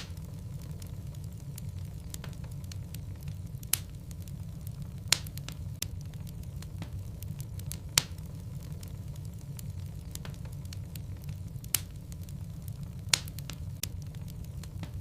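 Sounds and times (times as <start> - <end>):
low rumble of flame: 0.0 - 15.0
wood fire crackles: 0.0 - 15.0.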